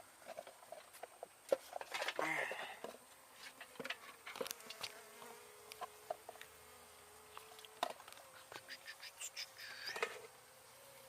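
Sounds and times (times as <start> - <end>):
honey bees buzzing: 2.1 - 11.0.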